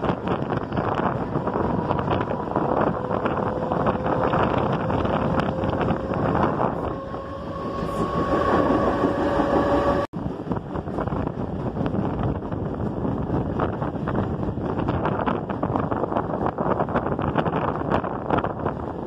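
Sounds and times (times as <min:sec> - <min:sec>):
train wheels rumbling on rail: 0:00.0 - 0:19.0
wind buffeting microphone: 0:00.0 - 0:19.0.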